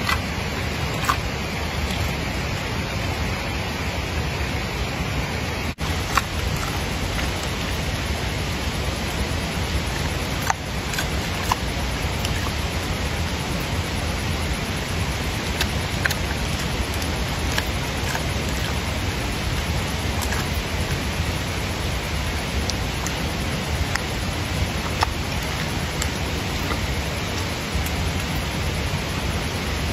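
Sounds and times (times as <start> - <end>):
panda chewing hard food: 0.0 - 2.2, 5.8 - 29.9
steady hiss: 0.0 - 29.9.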